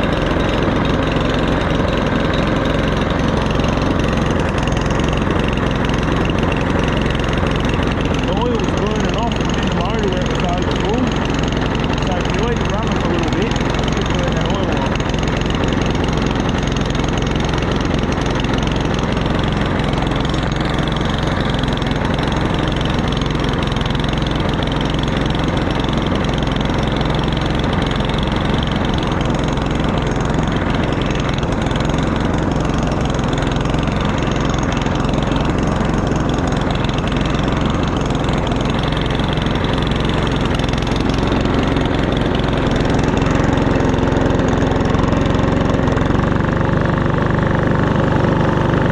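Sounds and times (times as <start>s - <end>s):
lawn mower engine running: 0.0s - 48.9s.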